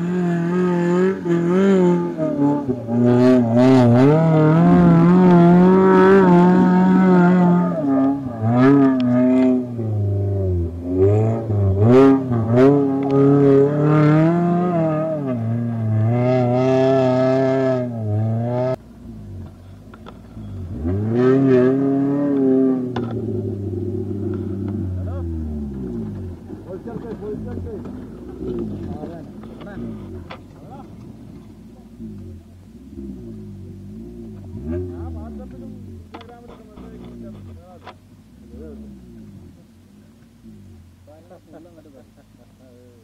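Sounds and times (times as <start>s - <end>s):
engine revving under load: 0.0s - 42.0s.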